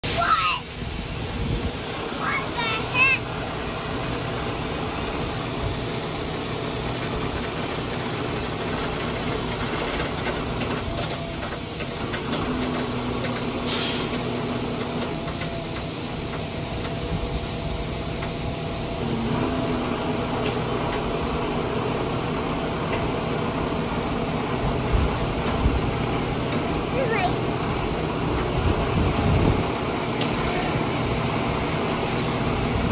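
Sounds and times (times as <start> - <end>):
diesel truck engine running: 0.3 - 32.9.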